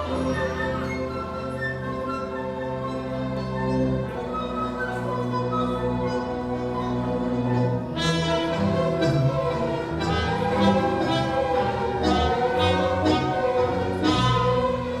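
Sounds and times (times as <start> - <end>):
orchestra playing tango: 0.0 - 15.0.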